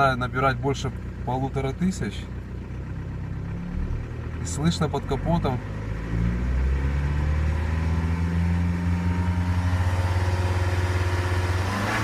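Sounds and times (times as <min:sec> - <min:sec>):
diesel engine running rough: 0:00.0 - 0:12.0.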